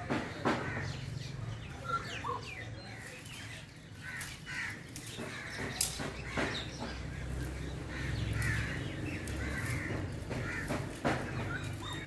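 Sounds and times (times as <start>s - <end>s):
bird harsh crow-like calls: 0.2s - 1.2s, 1.8s - 12.0s.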